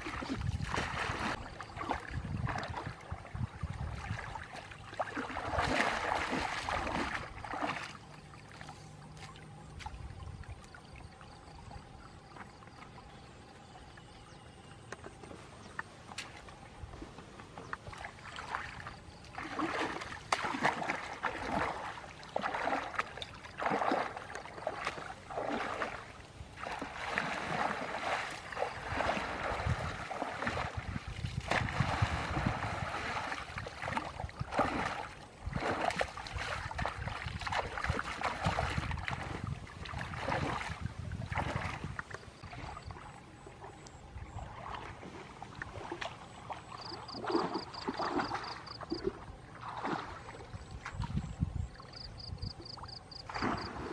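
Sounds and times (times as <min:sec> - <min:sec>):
muddy water splashing: 0:00.0 - 0:53.9.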